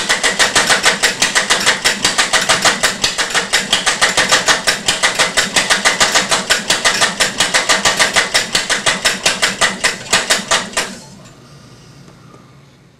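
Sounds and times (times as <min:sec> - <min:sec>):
small engine clattering: 0:00.0 - 0:11.0.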